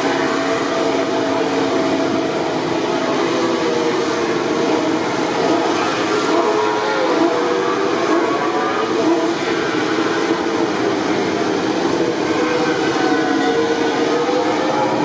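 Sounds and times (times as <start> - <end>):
race bike engine running: 0.0 - 15.0.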